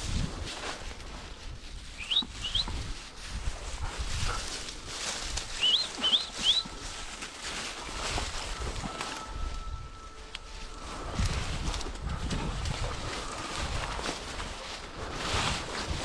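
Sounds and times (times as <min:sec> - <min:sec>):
footsteps through dry grass: 0:00.0 - 0:16.0.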